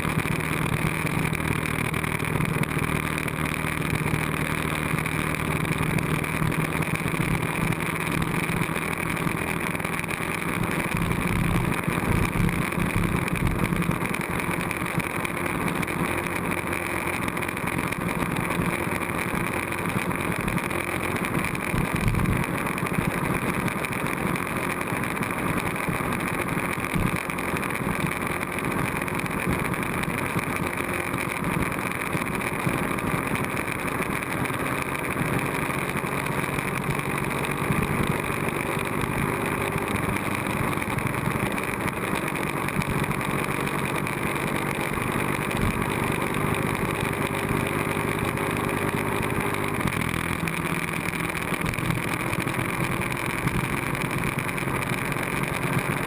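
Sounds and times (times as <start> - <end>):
motorcycle engine cruising: 0.0 - 56.0
road noise: 0.0 - 56.0.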